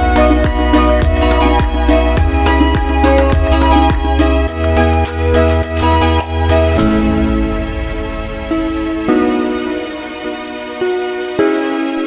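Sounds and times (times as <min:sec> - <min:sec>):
beat with strong bass: 0:00.0 - 0:10.2
soft held chords: 0:00.0 - 0:12.0.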